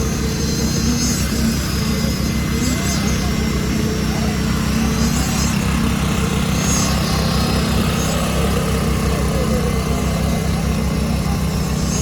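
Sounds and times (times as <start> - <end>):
heavy diesel engine droning: 0.0 - 12.0.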